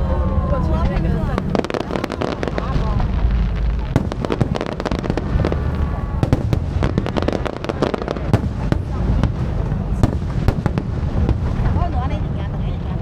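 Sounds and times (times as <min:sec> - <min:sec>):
low rumble: 0:00.0 - 0:13.0
fireworks popping and banging: 0:00.8 - 0:12.9.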